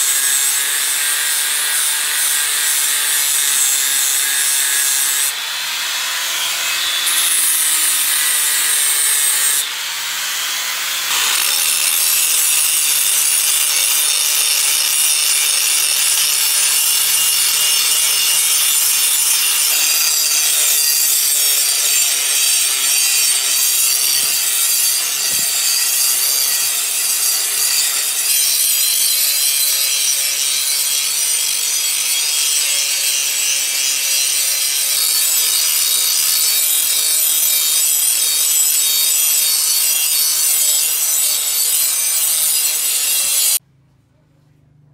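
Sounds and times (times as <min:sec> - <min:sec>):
angle grinder grinding metal: 0:00.0 - 0:43.6.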